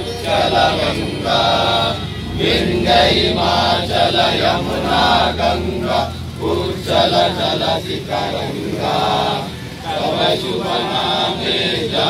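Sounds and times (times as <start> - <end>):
men singing in unison: 0.0 - 12.0.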